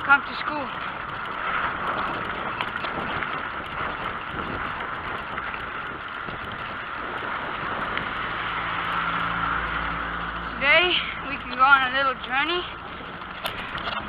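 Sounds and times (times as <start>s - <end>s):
bicycle road noise: 0.0s - 14.0s
wind noise on microphone: 0.0s - 14.0s.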